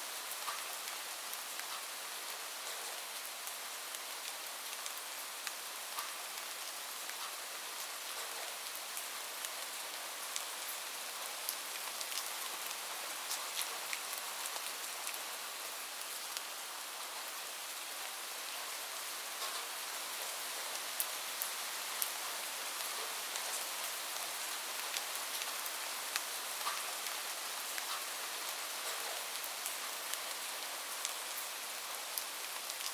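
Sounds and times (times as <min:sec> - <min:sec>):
raindrops ticking on a surface: 0:00.2 - 0:32.9.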